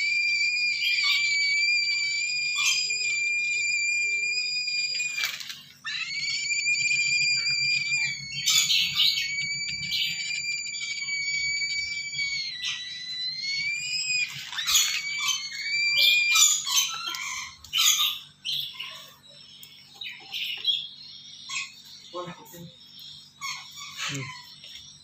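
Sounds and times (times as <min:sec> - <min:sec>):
harsh rasping squawks: 0:00.0 - 0:25.0
cockatoo chicks begging calls: 0:00.8 - 0:03.8, 0:05.8 - 0:24.8.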